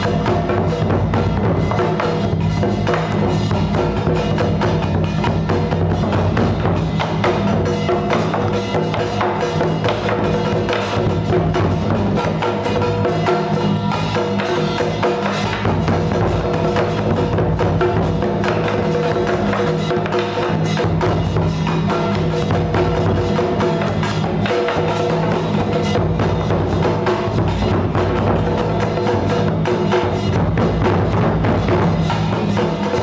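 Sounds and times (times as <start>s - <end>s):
wood block and drum music: 0.0s - 33.0s.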